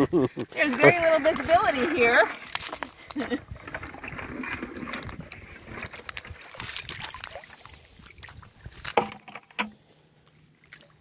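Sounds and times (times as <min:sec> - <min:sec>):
water sloshing and splashing: 0:00.5 - 0:11.0.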